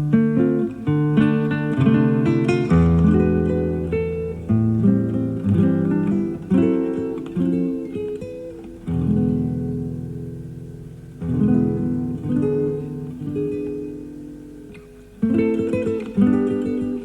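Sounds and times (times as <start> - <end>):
classical guitar playing: 0.0 - 17.0.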